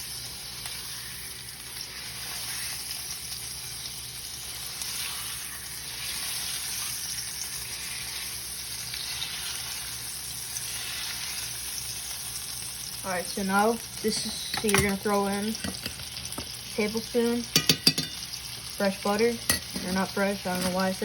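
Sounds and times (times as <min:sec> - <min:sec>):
steak sizzling in a pan: 0:00.0 - 0:21.0.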